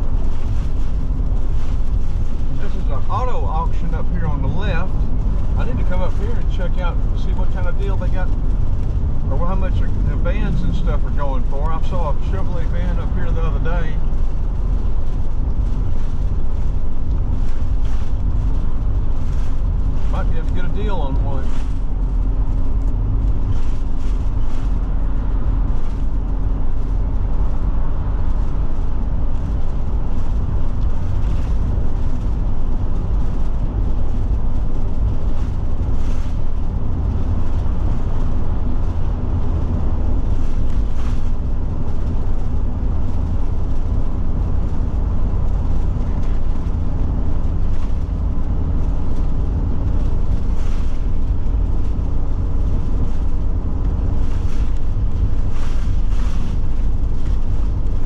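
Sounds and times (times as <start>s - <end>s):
faint ticks and rattles: 0.0s - 58.0s
road and drivetrain rumble: 0.0s - 58.0s.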